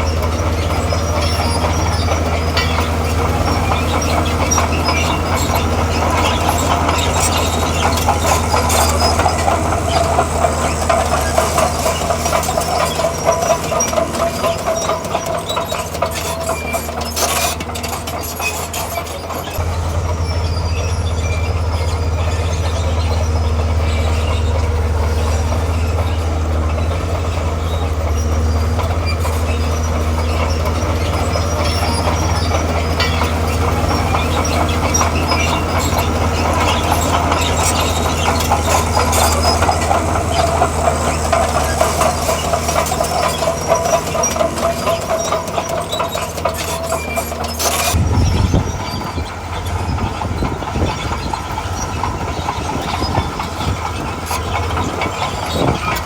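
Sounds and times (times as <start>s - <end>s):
diesel engine drone: 0.0s - 56.0s
squeal: 0.0s - 56.0s
steel crawler tracks clattering: 0.0s - 56.0s.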